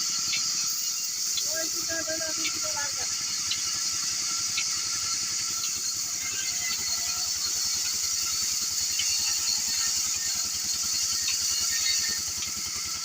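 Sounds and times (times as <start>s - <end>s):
small motor running: 0.0s - 13.0s.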